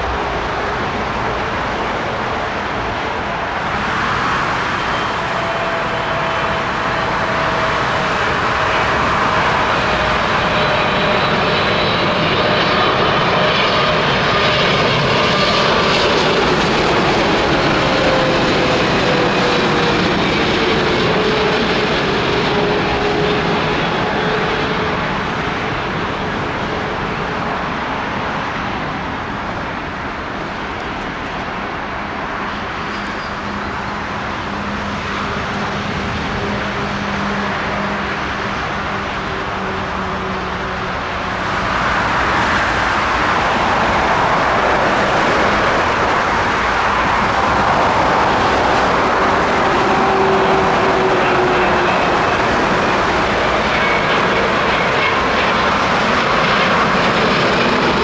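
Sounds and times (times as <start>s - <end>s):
jet engines landing: 0.0s - 58.0s
road traffic: 0.0s - 58.0s.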